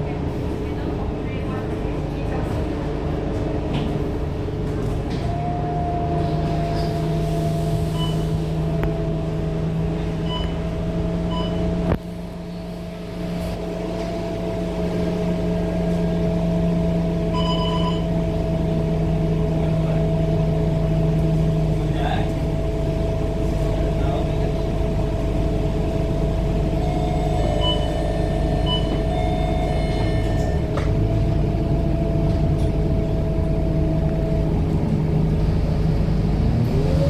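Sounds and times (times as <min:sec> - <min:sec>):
bus diesel engine droning: 0:00.0 - 0:37.0.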